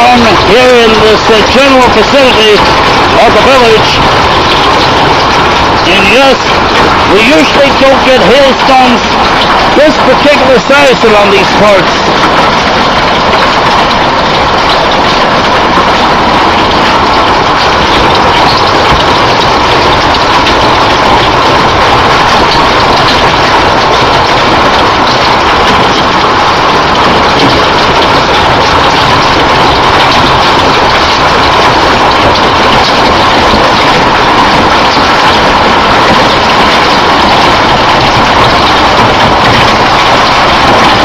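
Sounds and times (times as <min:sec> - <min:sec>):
hail and heavy rain pelting: 0:00.0 - 0:41.0.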